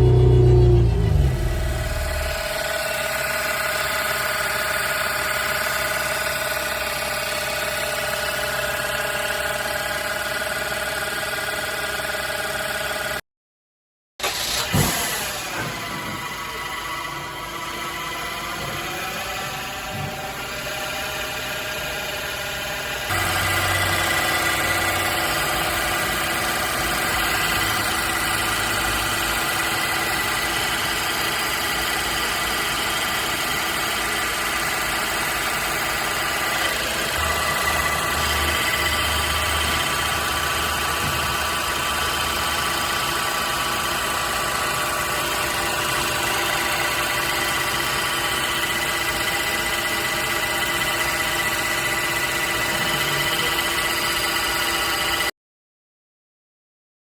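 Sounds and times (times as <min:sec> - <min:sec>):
car engine idling: 0:00.0 - 0:12.2, 0:16.2 - 0:55.2.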